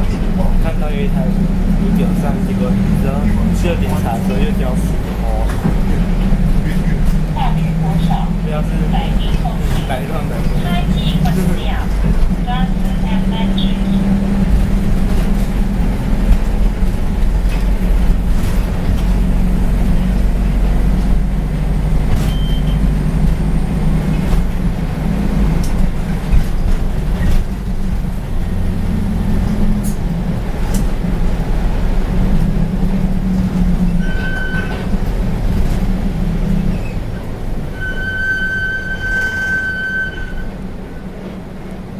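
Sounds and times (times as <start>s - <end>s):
bus diesel engine droning: 0.0s - 41.9s.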